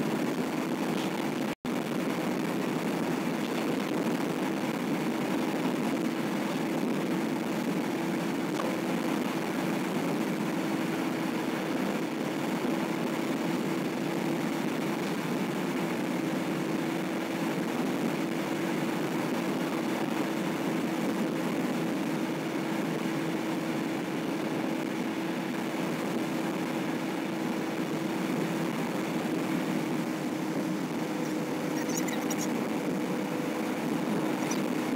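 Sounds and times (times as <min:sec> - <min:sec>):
car driving on a highway: 0:00.0 - 0:34.9.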